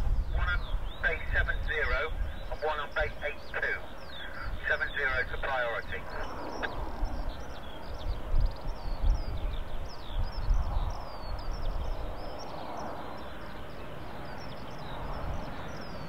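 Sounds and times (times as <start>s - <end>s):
distant jet engine rush: 0.0s - 16.0s
wind buffeting microphone: 0.0s - 16.0s
small birds chirping: 0.1s - 16.0s.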